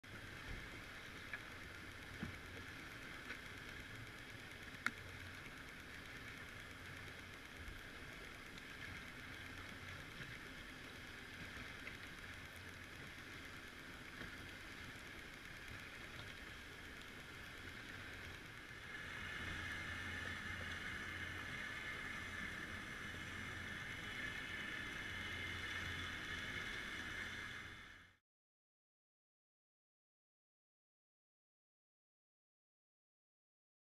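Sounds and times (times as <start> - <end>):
faint low hum: 0.1 - 28.2.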